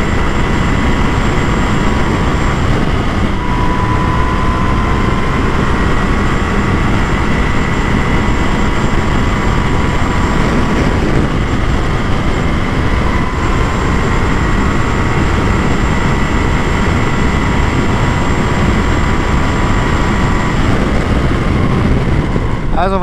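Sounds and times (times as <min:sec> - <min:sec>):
loud wind rush: 0:00.0 - 0:23.0
motorcycle engine running hard: 0:00.0 - 0:23.0.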